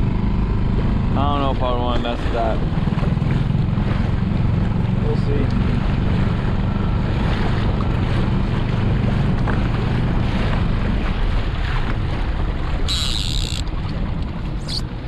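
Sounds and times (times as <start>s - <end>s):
outboard motor running: 0.0s - 15.0s
water rushing past hull: 0.0s - 15.0s
wind buffeting microphone: 0.0s - 15.0s.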